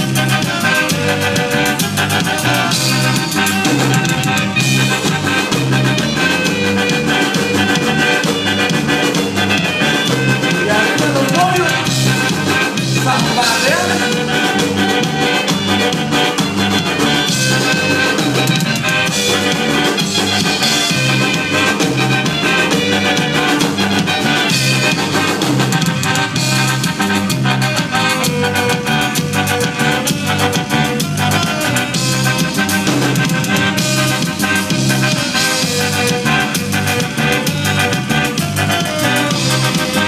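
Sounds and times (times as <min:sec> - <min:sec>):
live band playing latin dance music: 0:00.0 - 0:40.0
repeating bass line: 0:00.0 - 0:40.0.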